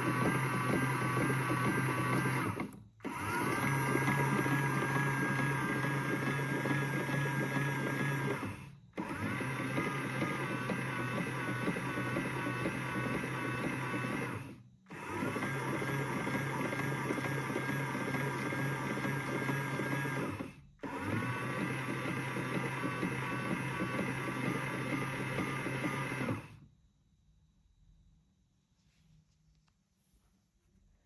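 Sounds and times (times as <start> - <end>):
toy washing machine motor: 0.0 - 26.6.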